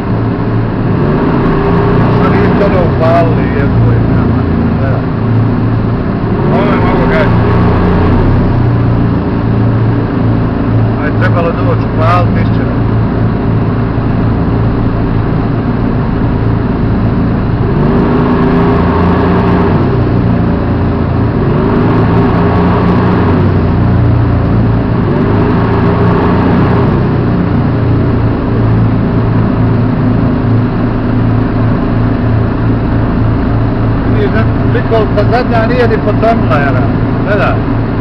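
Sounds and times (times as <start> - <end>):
tracked vehicle engine revving: 0.0 - 38.0.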